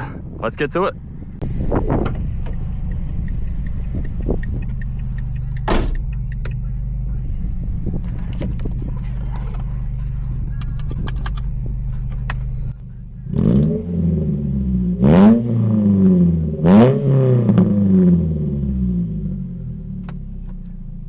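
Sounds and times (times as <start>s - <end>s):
car engine idling and revving: 0.0s - 21.0s
engine throttle blips: 0.0s - 21.0s.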